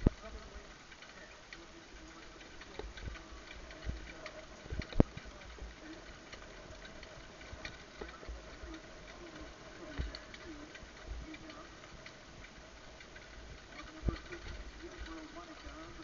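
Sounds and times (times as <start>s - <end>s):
harness rattle: 0.0s - 16.0s
hoofbeats on dirt: 2.1s - 16.0s.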